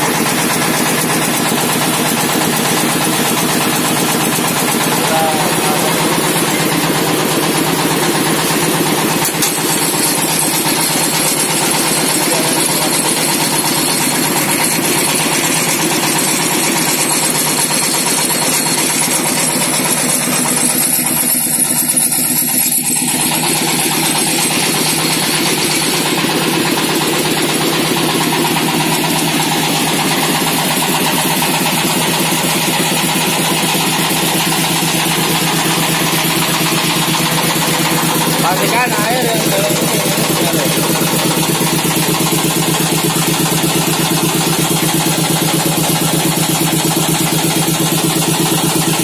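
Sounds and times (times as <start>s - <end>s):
diesel engine running: 0.0s - 49.0s
meat grinder running: 0.0s - 49.0s.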